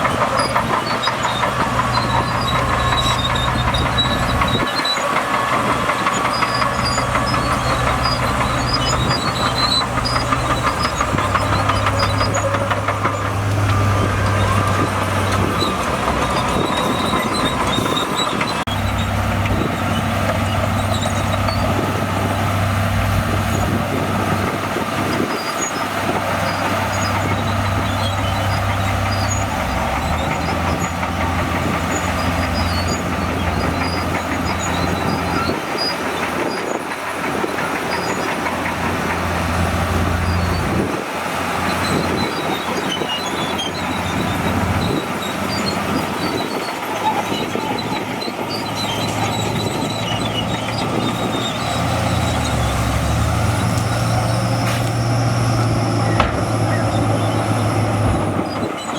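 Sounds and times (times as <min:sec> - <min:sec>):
bulldozer diesel engine: 0:00.0 - 0:58.9
steel tracks clattering: 0:00.0 - 0:58.9.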